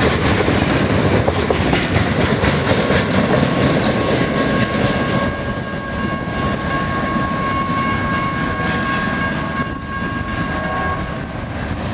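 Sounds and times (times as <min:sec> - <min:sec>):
wheels clacking over rail joints: 0:00.0 - 0:09.7.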